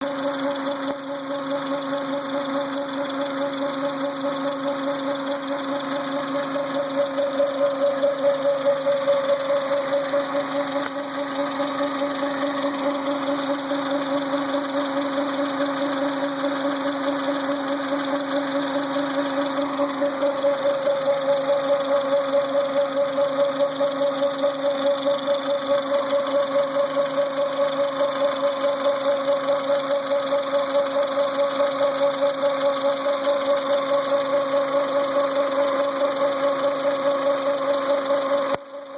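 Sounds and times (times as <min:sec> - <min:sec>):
engine idling: 0:00.0 - 0:38.9
power steering pump humming: 0:00.0 - 0:38.9.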